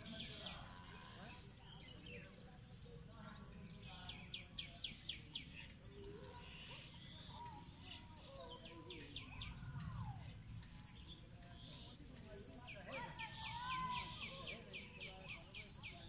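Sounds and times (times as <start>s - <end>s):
faint outdoor background noise: 0.0s - 16.0s
small birds chirping: 0.0s - 16.0s.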